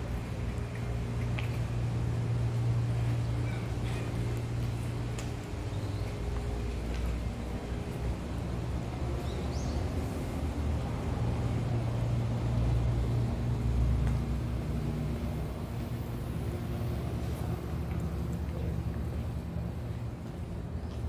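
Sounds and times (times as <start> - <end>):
motor vehicle engine rumble: 0.0 - 21.0.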